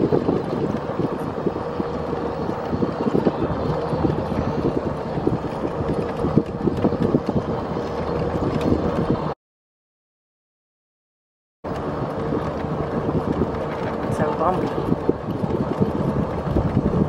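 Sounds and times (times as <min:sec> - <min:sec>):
vehicle running noise: 0:00.0 - 0:09.4, 0:11.6 - 0:17.0
wind buffeting microphone: 0:00.0 - 0:09.4, 0:11.7 - 0:17.0.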